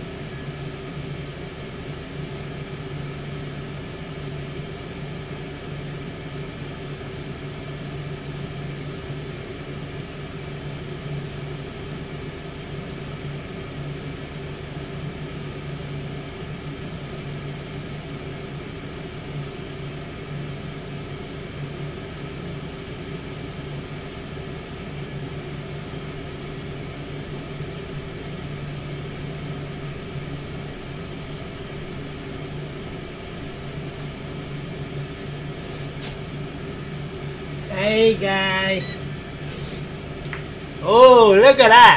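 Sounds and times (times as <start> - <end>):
air fryer fan hum: 0.0 - 41.9.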